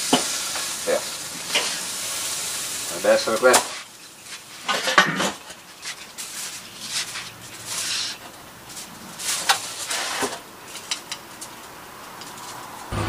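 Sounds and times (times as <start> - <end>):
aluminium foil crinkling: 0.1 - 12.9.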